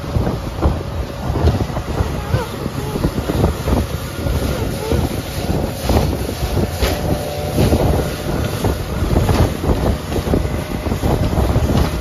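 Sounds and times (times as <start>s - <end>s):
choppy water: 0.0s - 12.0s
motorboat running at speed: 0.0s - 12.0s
wind buffeting microphone: 0.0s - 12.0s.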